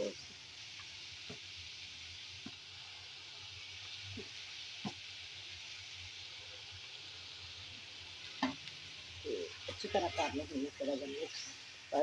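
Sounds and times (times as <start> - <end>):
food sizzling in metal pan: 0.0 - 12.0.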